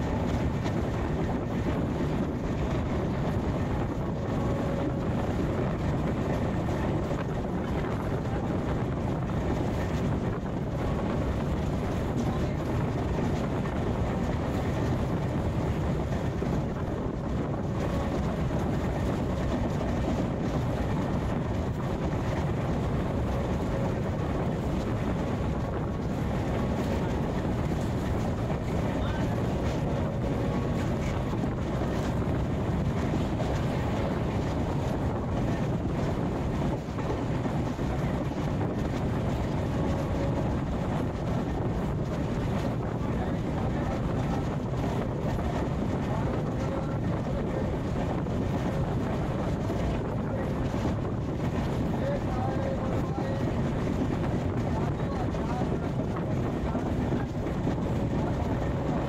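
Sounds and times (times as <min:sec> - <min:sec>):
express train running: 0:00.0 - 0:59.0
wind buffeting microphone: 0:00.0 - 0:59.0.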